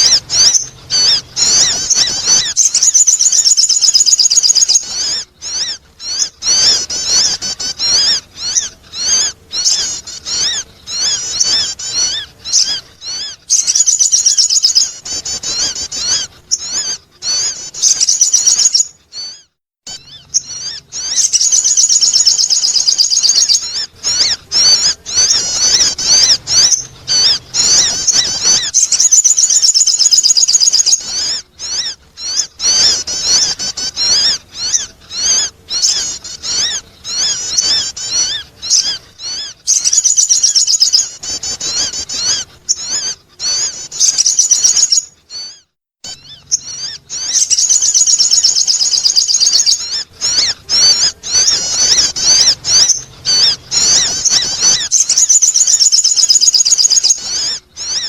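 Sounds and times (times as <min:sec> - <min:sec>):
bird lure chattering chirps: 0:00.0 - 0:58.0.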